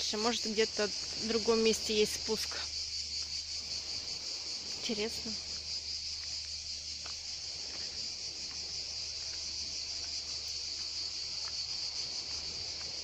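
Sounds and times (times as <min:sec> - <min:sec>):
cicadas chirring: 0:00.0 - 0:13.0.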